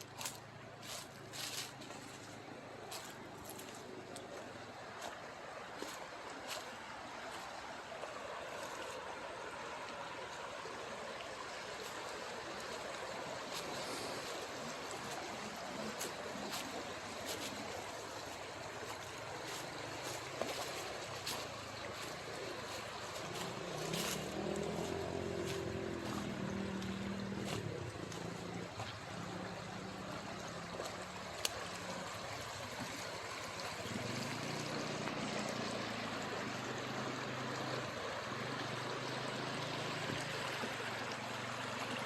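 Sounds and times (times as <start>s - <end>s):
river water rushing: 0.0s - 42.0s.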